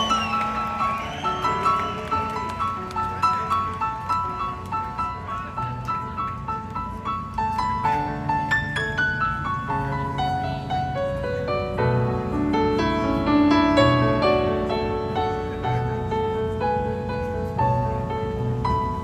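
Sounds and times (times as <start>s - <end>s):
piano-toned keyboard solo: 0.0s - 19.0s.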